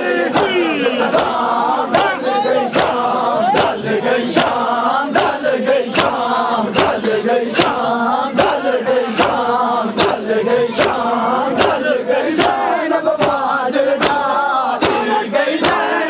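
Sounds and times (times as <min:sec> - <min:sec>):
crowd of men chanting: 0:00.0 - 0:16.0
hands slapping chests: 0:00.3 - 0:10.2, 0:10.8 - 0:16.0.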